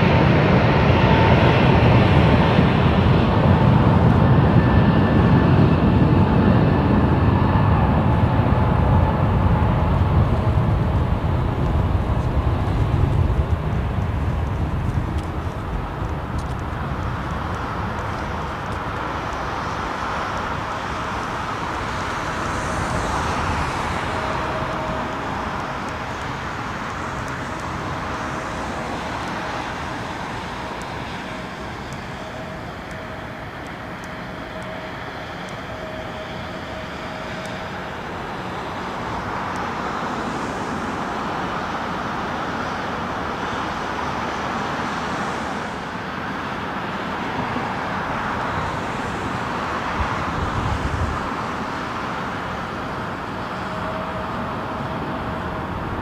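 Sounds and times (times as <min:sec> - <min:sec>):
faint jet engine whine: 0:00.0 - 0:56.0
jet engine roar: 0:00.0 - 0:56.0.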